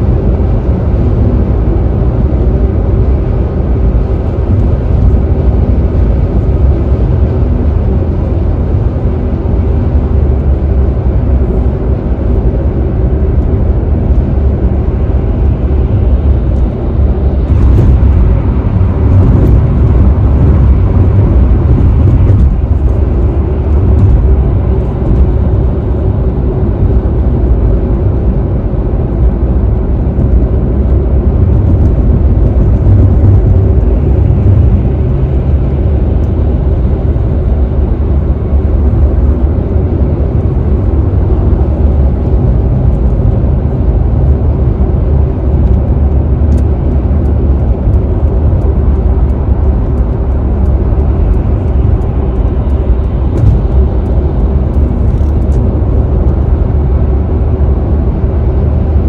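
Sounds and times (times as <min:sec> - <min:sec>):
road and wind noise inside car: 0:00.0 - 0:59.0.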